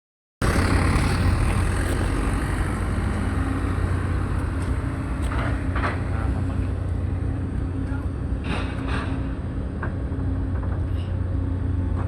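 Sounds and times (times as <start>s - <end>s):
ship engine rumbling: 0.4s - 12.0s.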